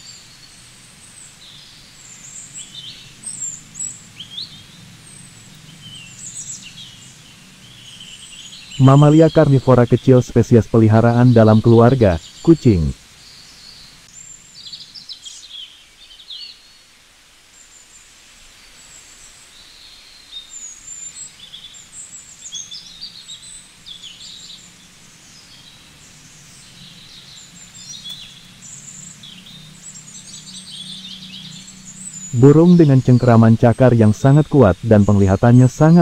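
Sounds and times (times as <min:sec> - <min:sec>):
faint steady low hum: 0:00.0 - 0:36.0
small birds chirping: 0:00.0 - 0:36.0.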